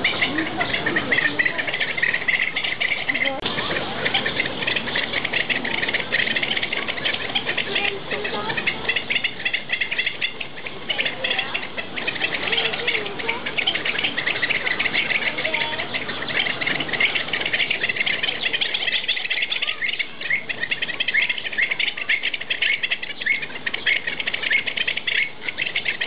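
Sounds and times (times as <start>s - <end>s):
flock of birds calling: 0.0s - 26.0s.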